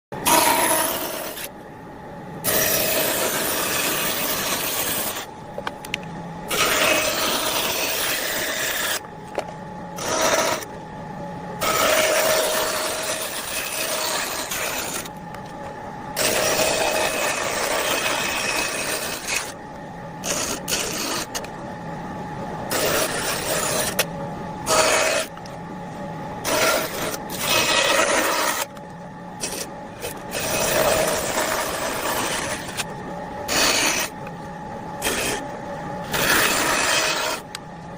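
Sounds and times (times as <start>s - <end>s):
steady whine: 0.1s - 37.9s.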